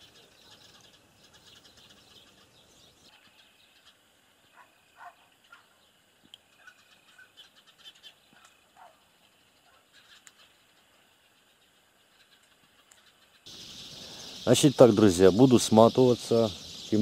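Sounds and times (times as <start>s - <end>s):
faint birds calling: 0.0s - 17.0s.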